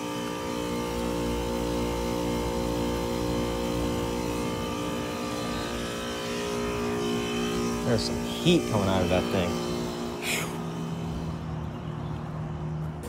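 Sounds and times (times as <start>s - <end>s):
air conditioner compressor hum: 0.0s - 13.0s.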